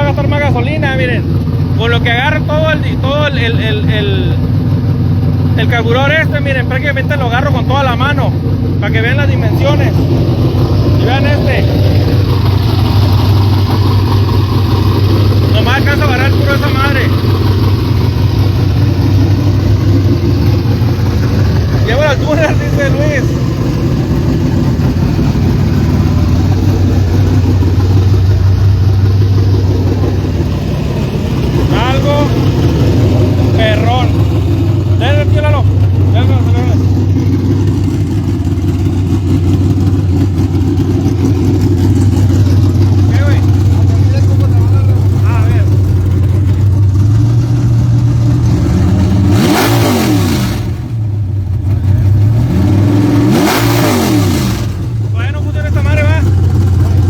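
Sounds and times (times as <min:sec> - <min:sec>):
car engine idling loudly: 0:00.0 - 0:57.0.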